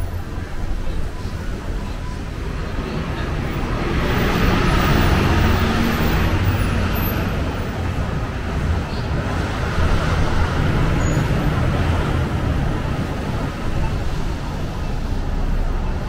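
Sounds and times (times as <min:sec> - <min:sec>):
heavy vehicle rumble: 0:00.0 - 0:16.0.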